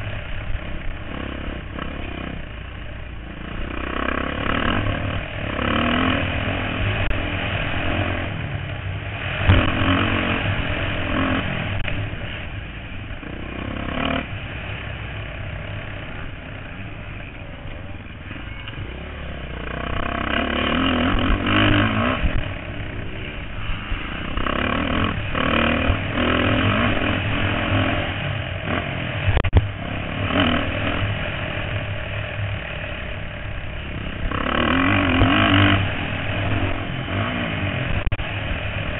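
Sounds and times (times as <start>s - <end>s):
motorcycle engines revving past: 0.0s - 38.9s.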